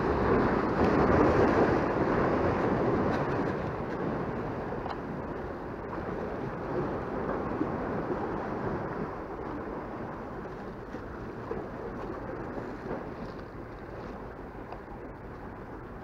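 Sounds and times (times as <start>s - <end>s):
sea waves washing against rocks: 0.0s - 16.0s.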